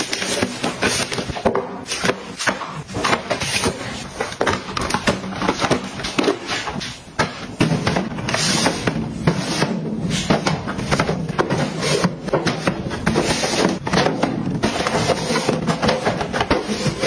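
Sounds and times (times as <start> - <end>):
plastic bins clacking and knocking: 0.0 - 17.0.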